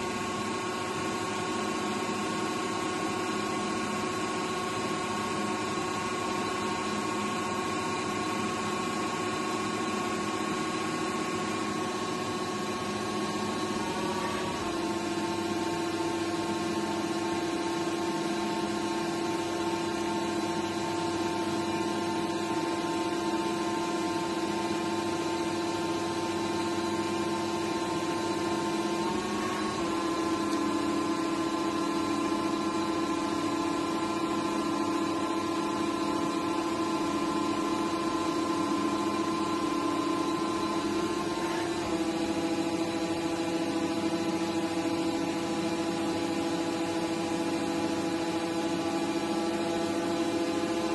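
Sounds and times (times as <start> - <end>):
lathe whining: 0.0 - 18.8, 26.3 - 50.9.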